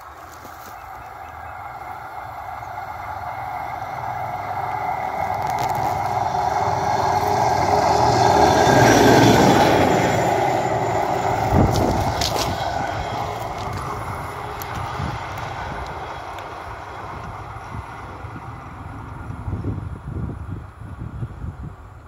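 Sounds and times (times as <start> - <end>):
vehicle running along railway track: 0.0 - 22.0.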